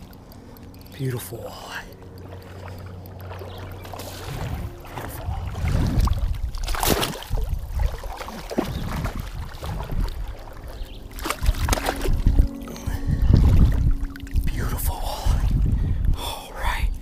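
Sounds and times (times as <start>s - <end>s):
fish splashing in shallow water: 0.0s - 14.3s.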